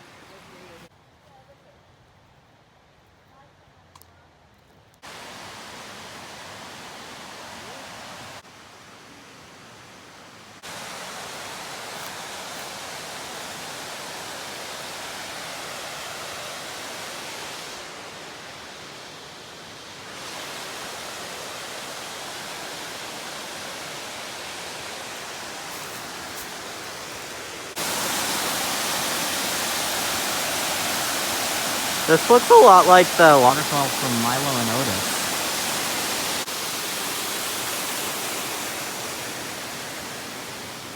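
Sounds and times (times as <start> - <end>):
waterfall rushing: 5.1 - 40.9.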